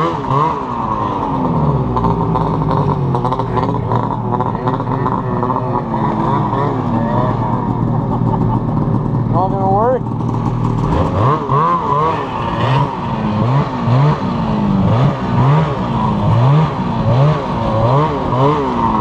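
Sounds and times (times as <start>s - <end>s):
snowmobile engine revving: 0.0s - 19.0s
track and snow noise: 0.0s - 19.0s.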